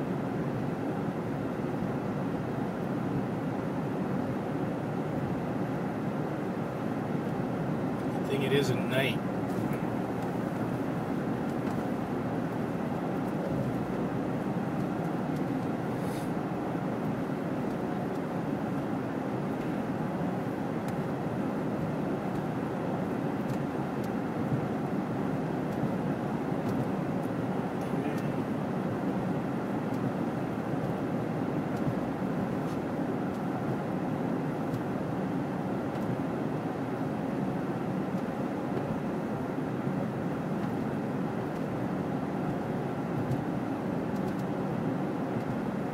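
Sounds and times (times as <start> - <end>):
car tyres on snow: 0.2 - 45.9.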